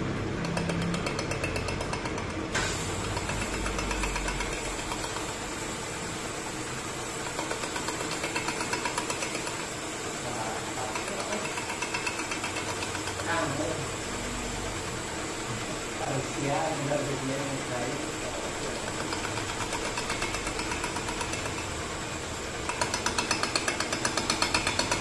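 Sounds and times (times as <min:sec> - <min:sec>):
fast regular ticking: 0:00.0 - 0:05.4, 0:07.2 - 0:14.1, 0:16.0 - 0:25.0
metal lathe running: 0:00.0 - 0:25.0.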